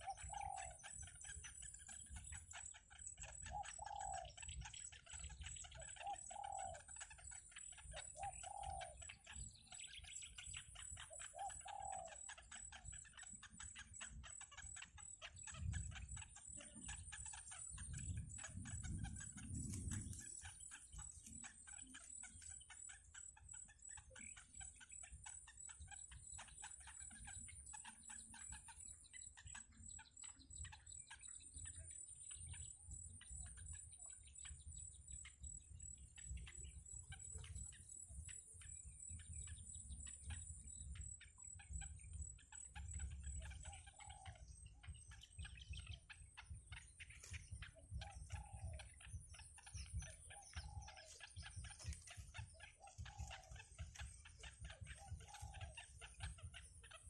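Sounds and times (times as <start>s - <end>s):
faint bird calls: 0.0s - 57.0s.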